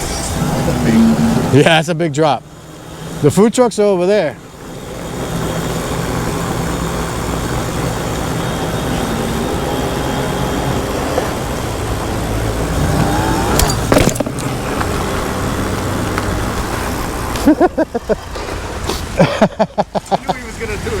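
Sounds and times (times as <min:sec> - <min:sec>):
road traffic: 0:00.0 - 0:21.0
vehicle accelerating: 0:00.0 - 0:21.0.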